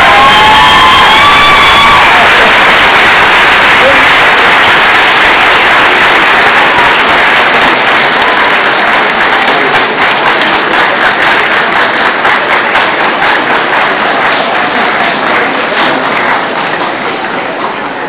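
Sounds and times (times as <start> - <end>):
large crowd applauding: 0.0 - 18.0.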